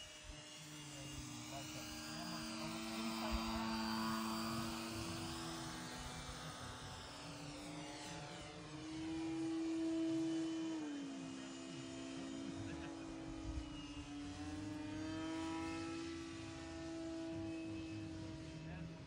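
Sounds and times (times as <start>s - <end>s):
model plane motor whining: 0.0s - 19.0s.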